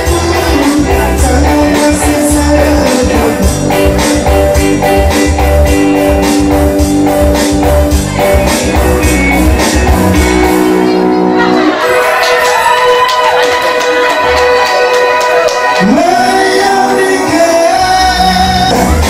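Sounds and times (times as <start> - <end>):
band music with steady beat: 0.0 - 19.0.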